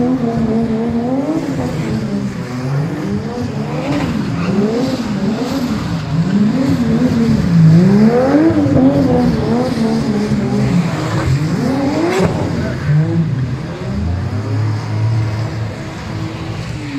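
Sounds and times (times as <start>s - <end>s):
car engines revving: 0.0s - 16.9s.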